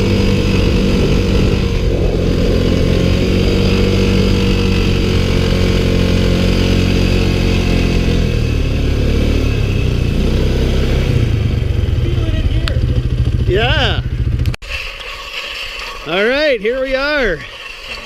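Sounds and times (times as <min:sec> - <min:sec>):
quad engine running: 0:00.0 - 0:14.6.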